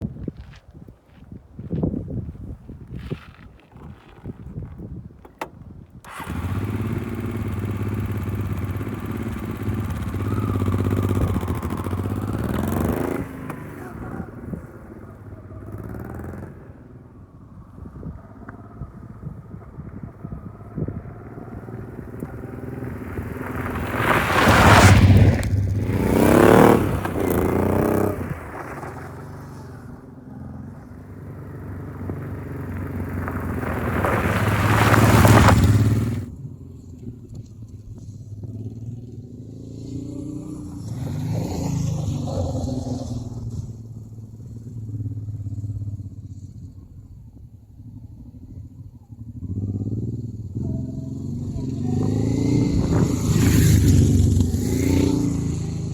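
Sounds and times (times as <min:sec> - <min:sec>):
motorcycle engine revving: 0:03.8 - 0:47.0, 0:47.8 - 0:55.9.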